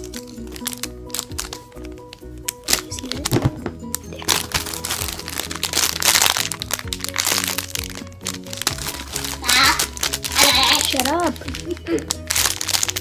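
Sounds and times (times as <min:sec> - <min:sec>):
background music: 0:00.0 - 0:13.0
foam squishies crackling: 0:00.0 - 0:13.0.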